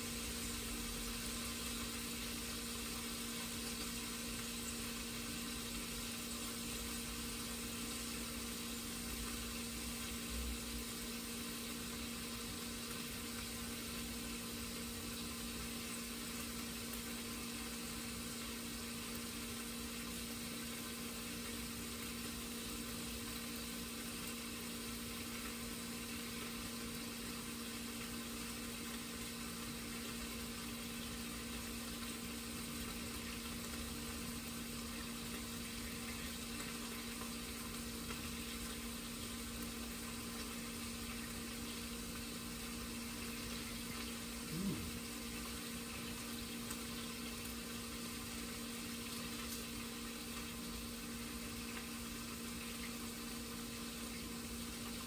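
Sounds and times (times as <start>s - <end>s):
range hood fan humming: 0.0s - 55.0s.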